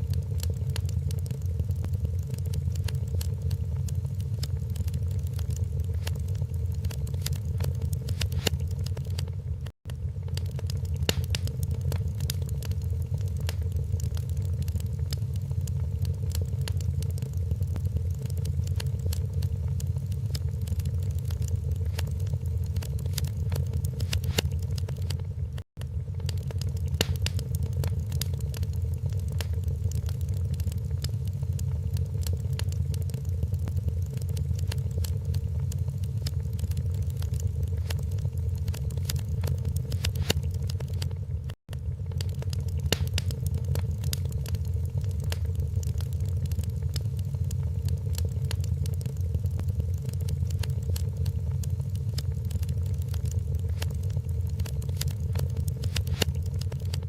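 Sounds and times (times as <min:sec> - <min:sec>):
low roar of flames: 0:00.0 - 0:57.0
wood fire crackling and popping: 0:00.0 - 0:57.0.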